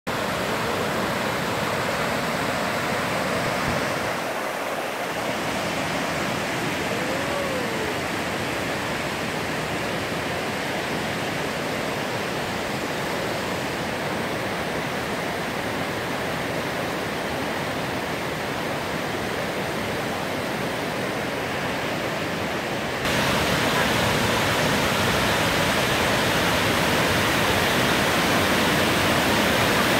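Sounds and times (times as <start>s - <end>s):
river rushing over rapids: 0.1s - 29.9s.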